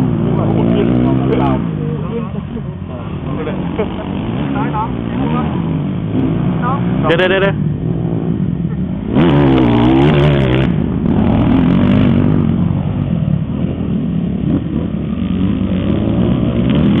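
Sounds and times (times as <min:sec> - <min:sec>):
dirt bike engine revving: 0:00.0 - 0:02.5, 0:03.1 - 0:17.0.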